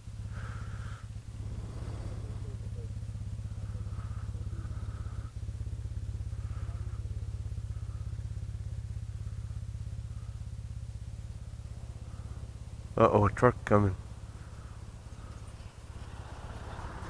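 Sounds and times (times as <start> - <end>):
scooter engine droning: 0.0 - 17.0.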